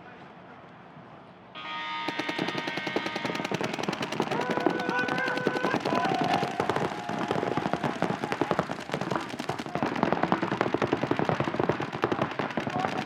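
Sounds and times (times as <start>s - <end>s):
paintball markers firing: 2.1s - 13.0s.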